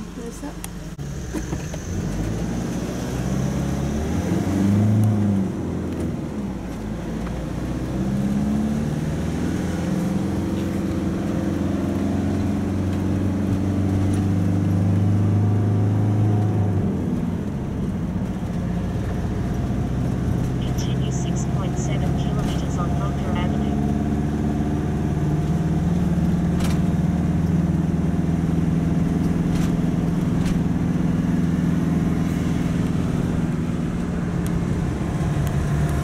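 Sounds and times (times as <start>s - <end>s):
engine and road noise in cab: 0.0s - 36.0s.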